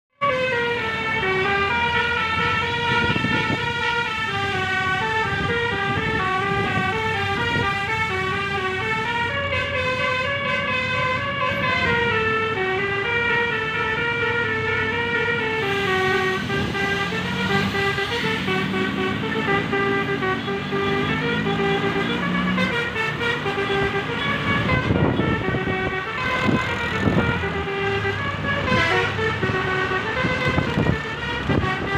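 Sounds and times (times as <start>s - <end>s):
musical bus horn melody: 0.2s - 31.9s.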